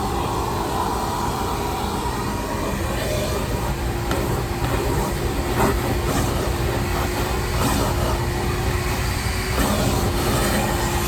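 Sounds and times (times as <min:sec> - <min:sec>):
shop vacuum running: 0:00.0 - 0:11.0.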